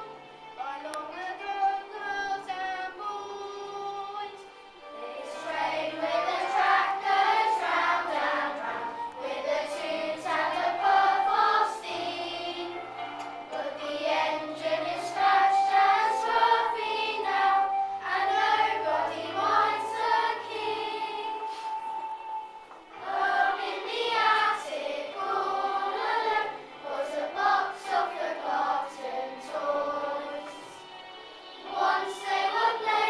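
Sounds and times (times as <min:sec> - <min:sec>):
children's choir singing: 0:00.0 - 0:33.0
backing accompaniment: 0:04.6 - 0:33.0.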